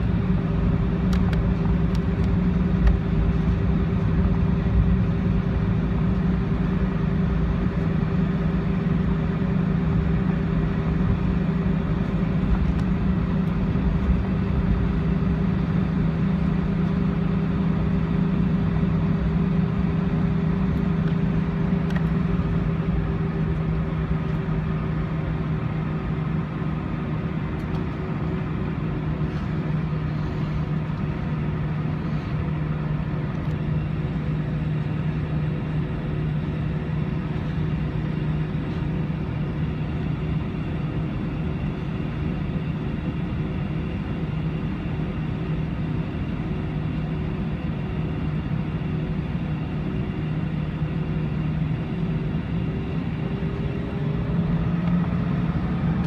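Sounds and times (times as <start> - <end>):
jet engines idling drone: 0.0 - 56.0.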